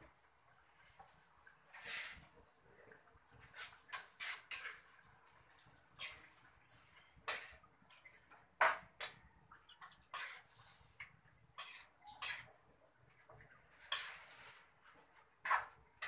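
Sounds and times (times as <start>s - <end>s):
spatula scraping a frying pan: 0.8s - 2.6s, 3.2s - 16.0s.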